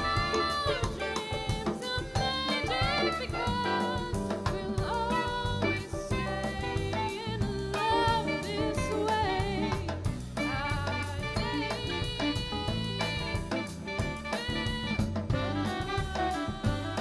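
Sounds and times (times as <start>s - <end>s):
saxophones: 0.0s - 4.2s, 4.8s - 17.0s
bass: 0.0s - 17.0s
drum kit: 0.0s - 17.0s
piano: 0.0s - 17.0s
woman singing: 0.0s - 17.0s.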